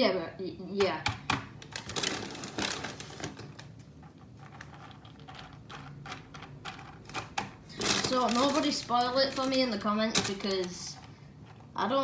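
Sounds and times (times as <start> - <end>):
plastic bag crinkling: 1.6 - 11.8.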